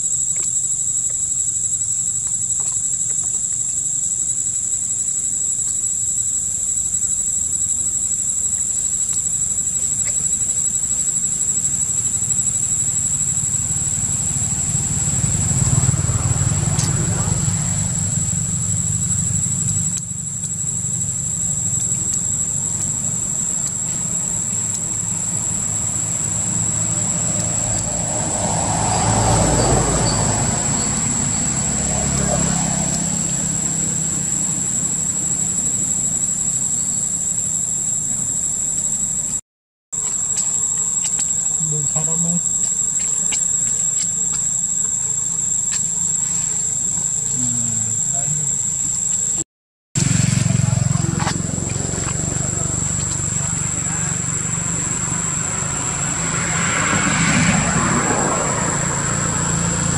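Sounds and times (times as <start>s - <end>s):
high-pitched insect drone: 0.0s - 39.4s, 40.0s - 49.4s, 50.0s - 59.9s.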